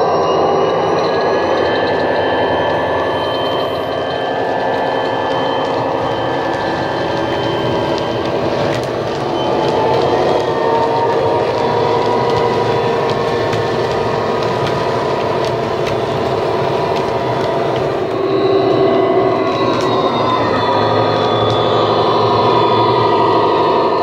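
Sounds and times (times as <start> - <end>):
model wagons rolling on track: 1.1 - 24.0.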